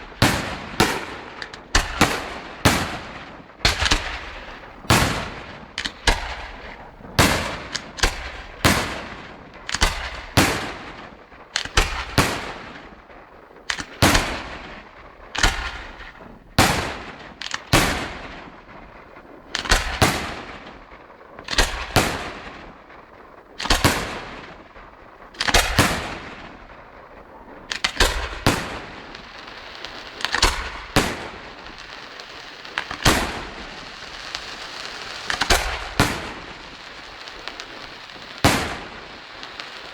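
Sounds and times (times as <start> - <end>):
fireworks bangs: 0.0 - 39.9
fireworks sizzling crackle: 0.0 - 39.9.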